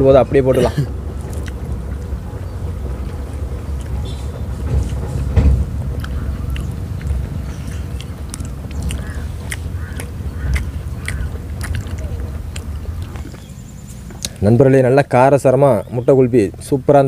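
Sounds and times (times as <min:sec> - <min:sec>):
low rumble: 0:00.0 - 0:14.3
people chewing: 0:00.5 - 0:14.6.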